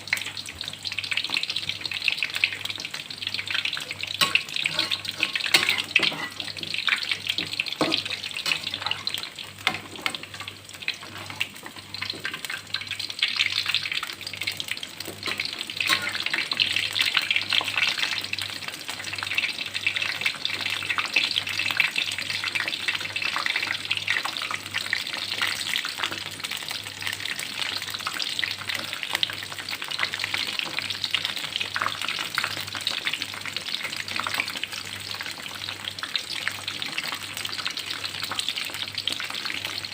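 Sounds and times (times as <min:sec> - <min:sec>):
shrimp frying in hot oil: 0:00.0 - 0:39.9.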